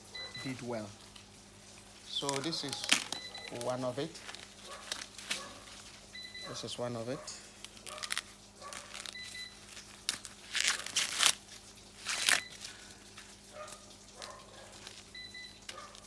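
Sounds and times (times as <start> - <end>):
corn leaves rustling and tearing: 2.0 - 16.0.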